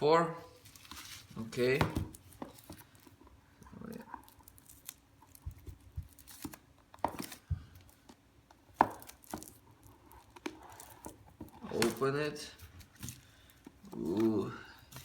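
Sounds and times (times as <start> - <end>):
packaging rustling: 0.6 - 8.2, 8.8 - 15.0.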